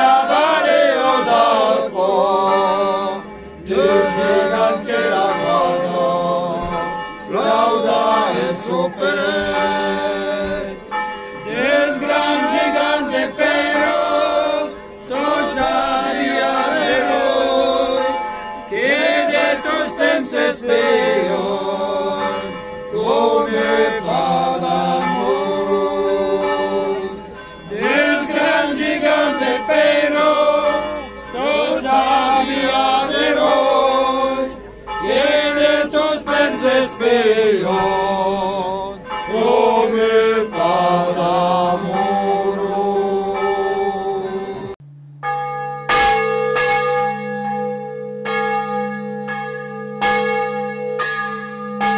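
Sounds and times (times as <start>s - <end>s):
men singing unaccompanied: 0.0s - 6.7s, 7.3s - 10.8s, 11.5s - 44.8s.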